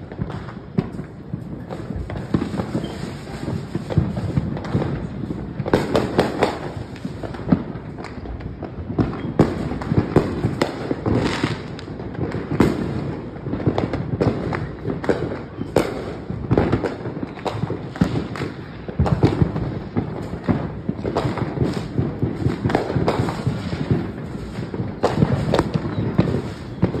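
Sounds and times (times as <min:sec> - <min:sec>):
fireworks bangs and crackling: 0:00.0 - 0:27.0
loud firework blasts: 0:00.0 - 0:27.0.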